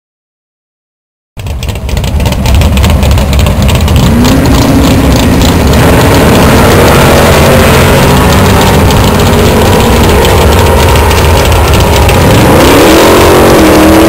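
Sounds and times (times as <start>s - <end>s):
car engine running rough: 1.4s - 14.0s.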